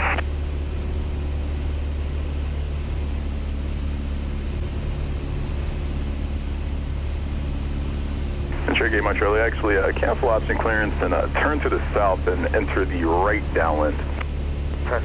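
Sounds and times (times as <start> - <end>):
airplane engine droning in cockpit: 0.0 - 15.0.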